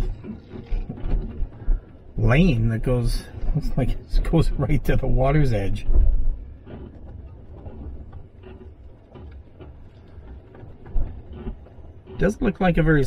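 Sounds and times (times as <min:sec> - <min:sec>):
vehicle rolling on gravel: 0:00.0 - 0:13.0.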